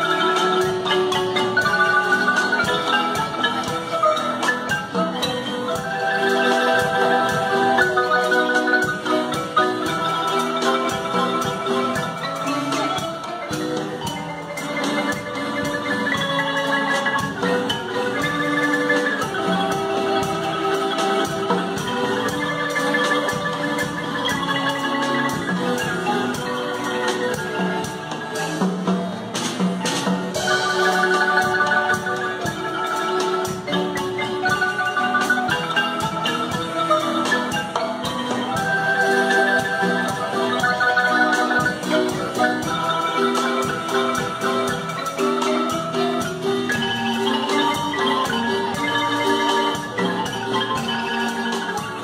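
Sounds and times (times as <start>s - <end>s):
drum kit beat: 0.0s - 52.0s
marimba melody: 0.0s - 52.0s.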